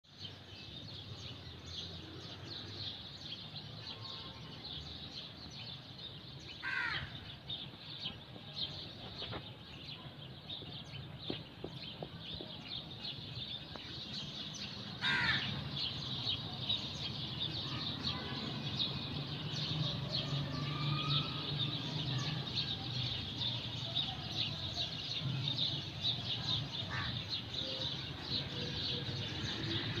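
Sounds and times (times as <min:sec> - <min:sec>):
birds chirping: 0:00.1 - 0:30.0.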